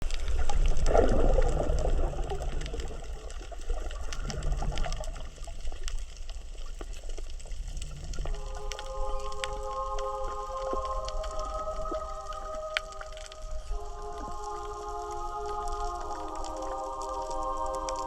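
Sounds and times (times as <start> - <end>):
crackle of little clicks: 0.0 - 18.0
low underwater rumble: 0.0 - 18.0
rush of water bubbles: 0.1 - 18.0.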